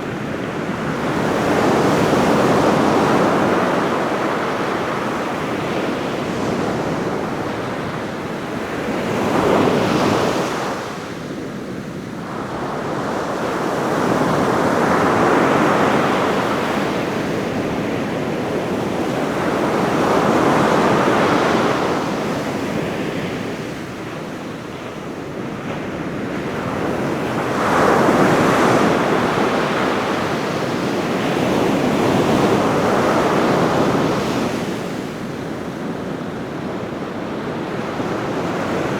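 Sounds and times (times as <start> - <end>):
waves washing onto a beach: 0.0 - 38.9
wind: 0.0 - 38.9.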